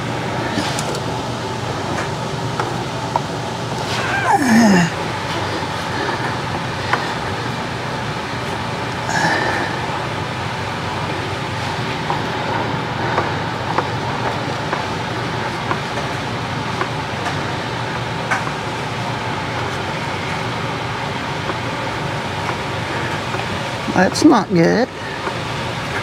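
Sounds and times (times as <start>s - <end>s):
mechanical whir: 0.0s - 24.0s
faint hum: 0.0s - 26.0s.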